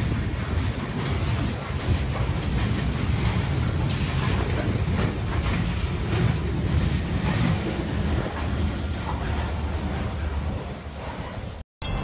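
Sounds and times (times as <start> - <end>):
train clanks: 0.0 - 12.0
train wheels rumbling on rail: 0.0 - 12.0.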